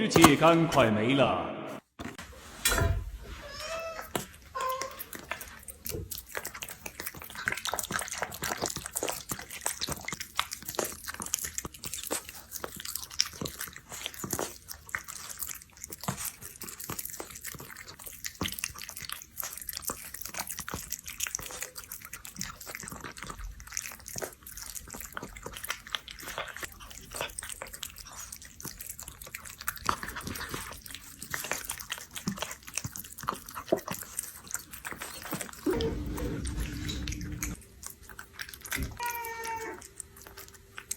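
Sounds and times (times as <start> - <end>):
cat chewing and licking: 4.0 - 40.9.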